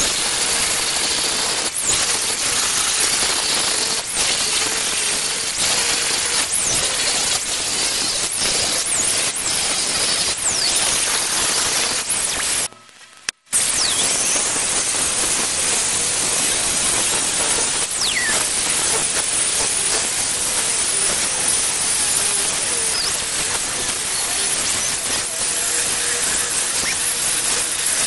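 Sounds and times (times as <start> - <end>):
angle grinder grinding steel: 0.0 - 12.8, 13.6 - 28.0.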